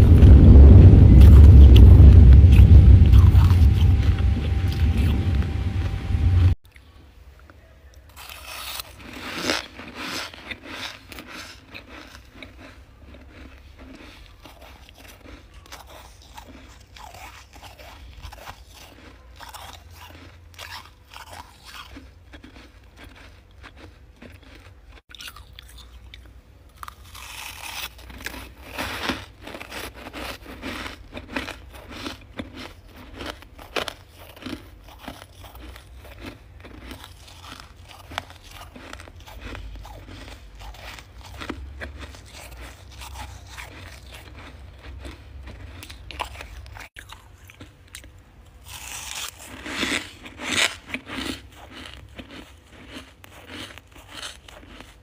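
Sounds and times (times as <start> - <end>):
freezer frost crunching: 7.9 - 55.0.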